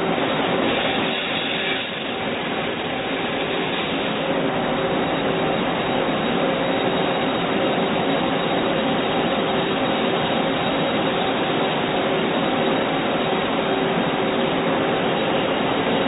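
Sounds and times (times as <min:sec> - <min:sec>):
faint steady tones: 0:00.0 - 0:16.0
lathe machine running: 0:00.0 - 0:16.0.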